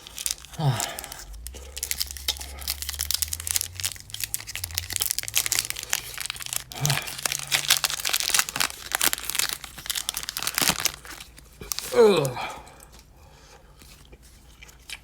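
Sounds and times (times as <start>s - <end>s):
foil wrapper crinkling and tearing: 0.0s - 12.4s.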